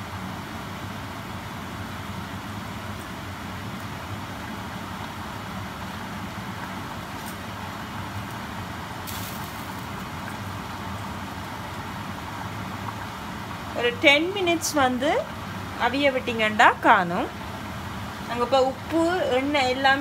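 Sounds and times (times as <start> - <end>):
water boiling in saucepan: 0.0 - 20.0.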